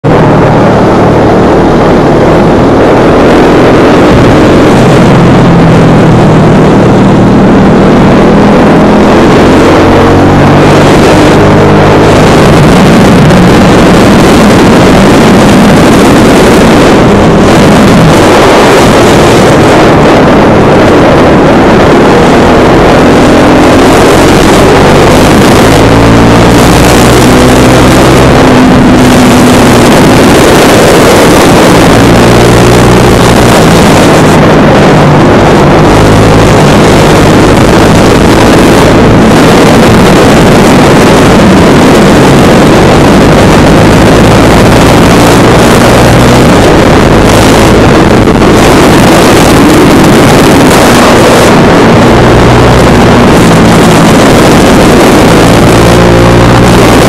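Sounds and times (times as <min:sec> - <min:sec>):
motorcycle engine accelerating: 0:00.0 - 0:57.0
wind on microphone: 0:00.0 - 0:57.0.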